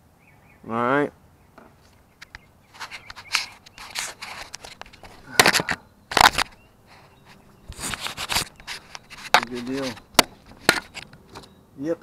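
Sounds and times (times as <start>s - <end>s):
scraping and rustling handling noise: 1.6s - 11.6s.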